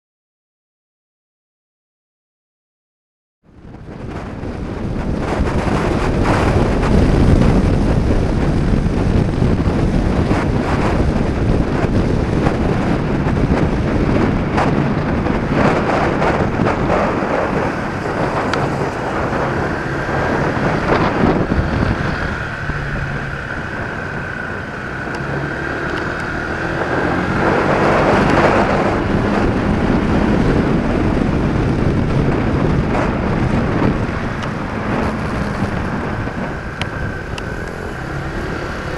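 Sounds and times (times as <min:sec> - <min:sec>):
wind buffeting microphone: 0:03.4 - 0:38.9
scooter engine running: 0:04.0 - 0:38.9.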